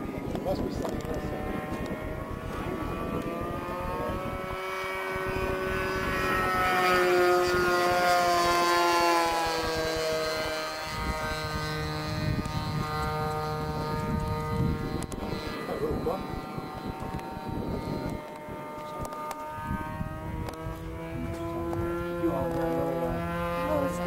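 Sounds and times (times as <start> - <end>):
model plane engine flying past: 0.0 - 24.0.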